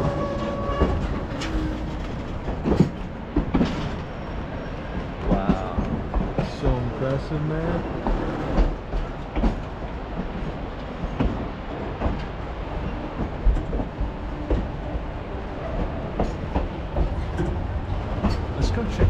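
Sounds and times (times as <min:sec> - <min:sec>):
train rumbling on track: 0:00.0 - 0:19.0.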